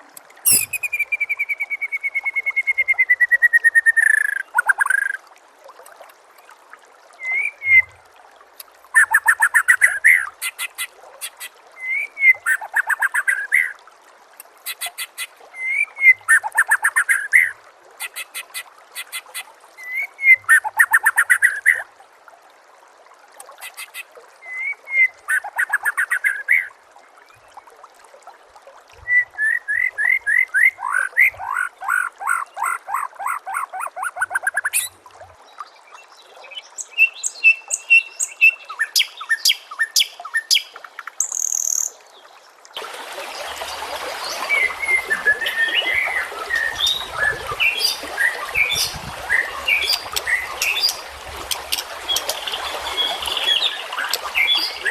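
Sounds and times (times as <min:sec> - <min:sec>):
songbird song: 0:00.0 - 0:05.3, 0:06.3 - 0:13.8, 0:14.6 - 0:21.8, 0:23.6 - 0:27.7, 0:29.0 - 0:54.9.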